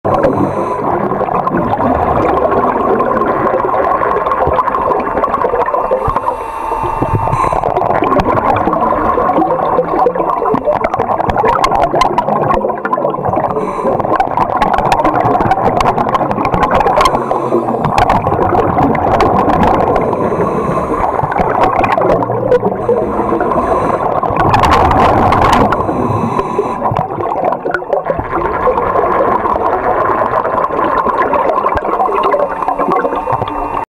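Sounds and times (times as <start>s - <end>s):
air bubbles gurgling underwater: 0.0s - 33.9s.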